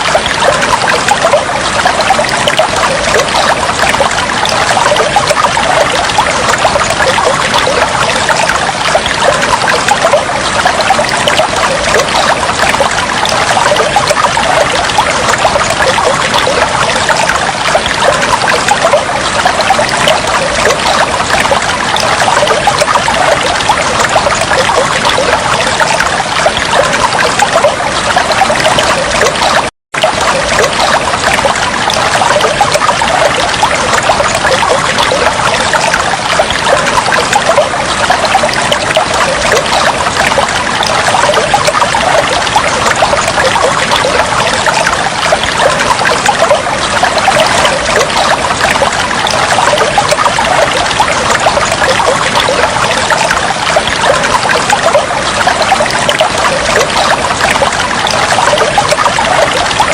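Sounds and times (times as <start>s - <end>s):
flowing and trickling water: 0.0s - 59.9s.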